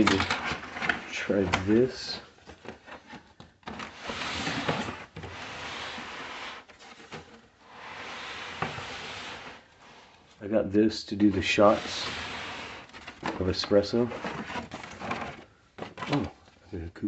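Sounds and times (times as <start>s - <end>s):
cardboard scraping and rustling: 0.0s - 10.4s, 11.1s - 16.5s.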